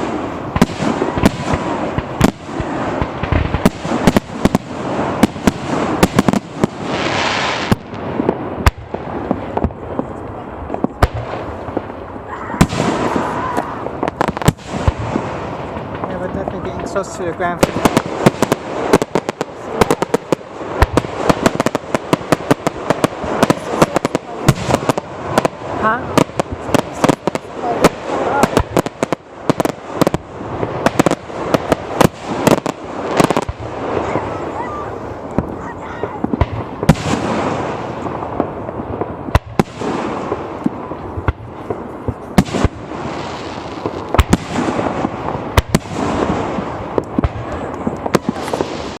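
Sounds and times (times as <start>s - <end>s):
din of firework bursts: 0.0s - 49.0s
fireworks bangs: 0.0s - 49.0s.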